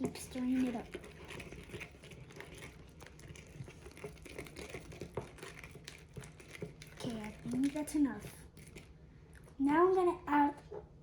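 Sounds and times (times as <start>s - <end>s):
spoon stirring sticky slime: 0.0s - 9.8s.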